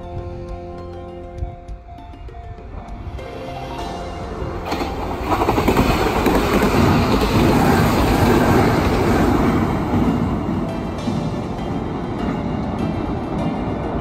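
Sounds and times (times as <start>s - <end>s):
electric train passing: 0.0s - 14.0s.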